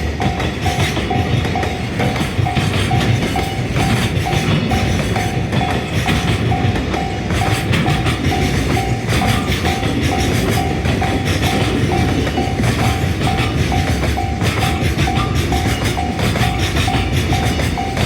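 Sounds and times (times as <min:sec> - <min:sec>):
level crossing alarm clanging: 0:00.0 - 0:18.0
train wheels clacking on rails: 0:00.0 - 0:18.0.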